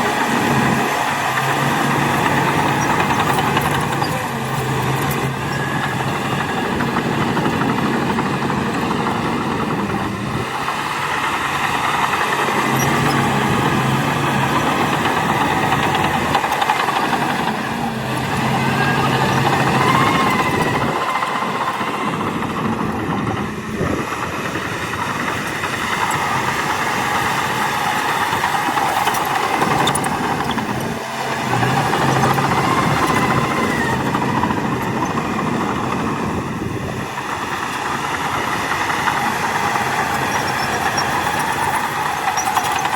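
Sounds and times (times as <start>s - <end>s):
bulldozer diesel engine: 0.0s - 42.9s
track and machinery clatter: 0.0s - 42.9s.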